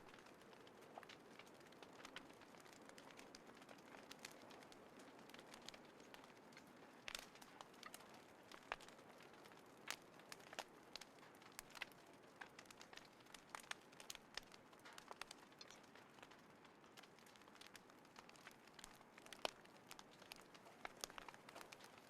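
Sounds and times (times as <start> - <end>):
faint steady hiss: 0.0 - 22.0
small wood fire crackling: 0.0 - 22.0.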